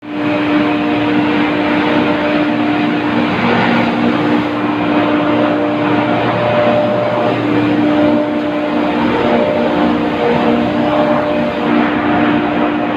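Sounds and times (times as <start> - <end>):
constant hum: 0.0 - 12.9
loud machinery noise: 0.0 - 12.9.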